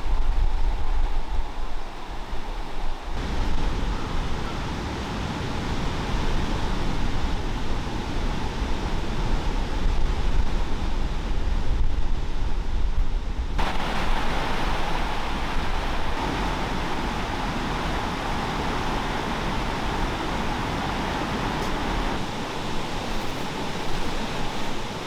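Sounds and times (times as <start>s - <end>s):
rushing outdoor noise: 0.0s - 25.0s.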